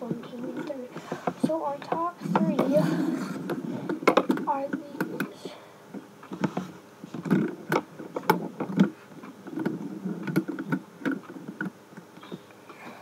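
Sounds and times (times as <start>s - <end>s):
fidget spinners clicking and knocking: 0.0s - 12.5s.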